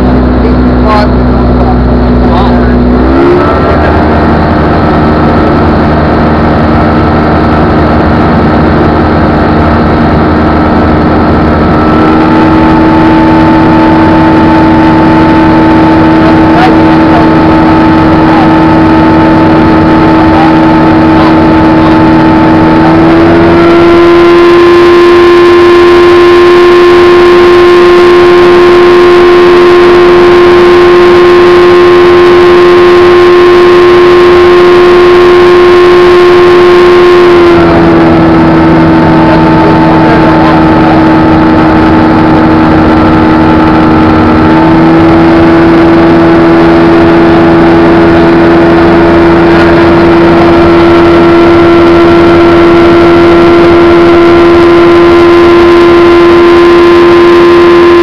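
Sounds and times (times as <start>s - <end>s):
aircraft engine and propeller: 0.0s - 58.0s.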